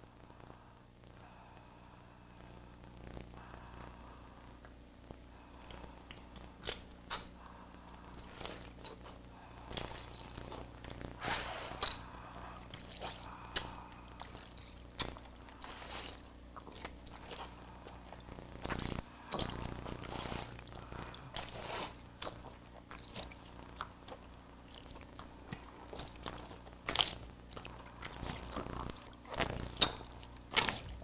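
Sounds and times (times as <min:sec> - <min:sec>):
low hum: 0:00.0 - 0:31.0
crisp clicks and crunchy scratching: 0:04.6 - 0:31.0.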